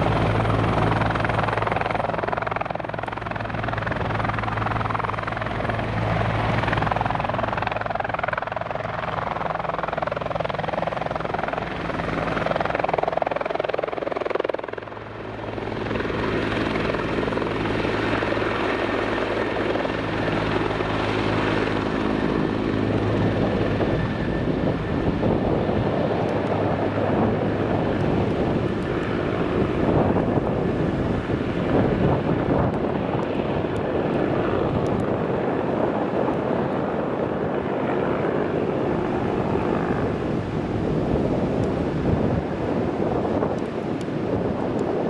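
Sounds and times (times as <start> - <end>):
helicopter rotor and turbines: 0.0 - 45.0.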